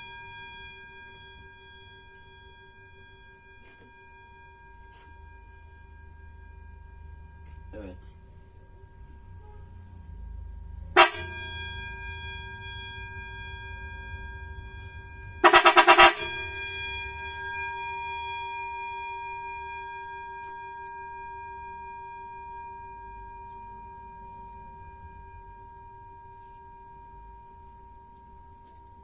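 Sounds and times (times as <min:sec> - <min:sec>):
electric bell car horn ringing: 0:00.0 - 0:25.5.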